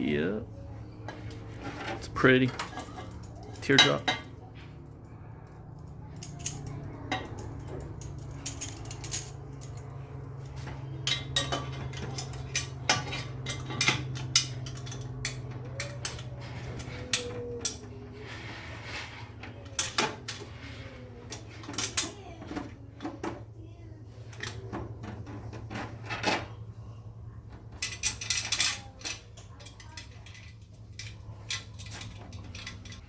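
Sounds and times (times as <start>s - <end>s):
steady low hum: 0.0s - 33.0s
metal tools clinking and knocking: 1.0s - 5.0s, 5.7s - 23.5s, 24.2s - 26.8s, 27.5s - 33.0s.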